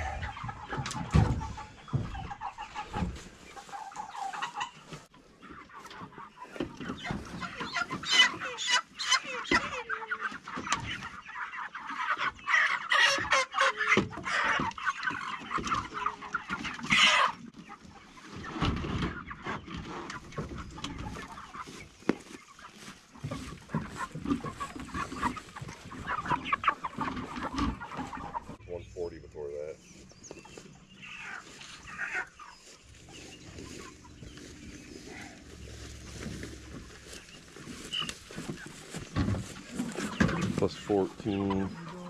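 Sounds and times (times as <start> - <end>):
chickens clucking and calling: 0.0 - 42.0.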